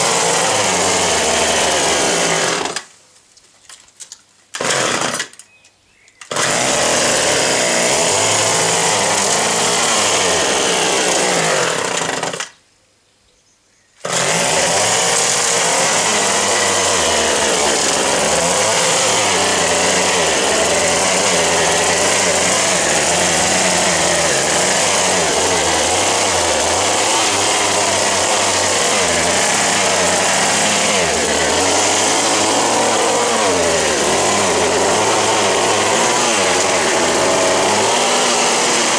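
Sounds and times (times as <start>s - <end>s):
hedge trimmer engine running: 0.0s - 2.8s, 4.6s - 5.3s, 6.3s - 12.5s, 14.0s - 38.9s.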